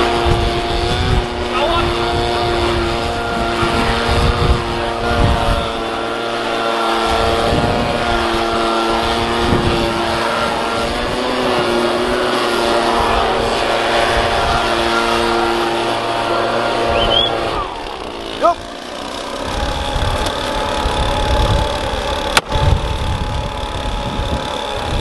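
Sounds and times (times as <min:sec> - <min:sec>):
two-stroke blower engine running: 0:00.0 - 0:25.0.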